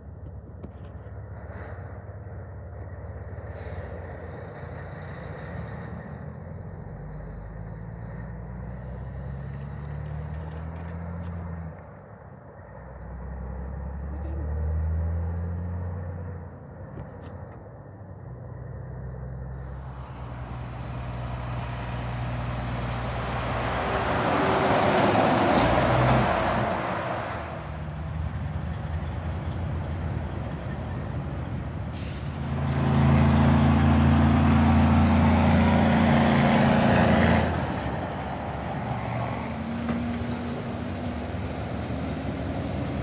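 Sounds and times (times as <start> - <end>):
diesel engine drone: 0.0 - 43.0
tyre and road noise: 0.0 - 43.0.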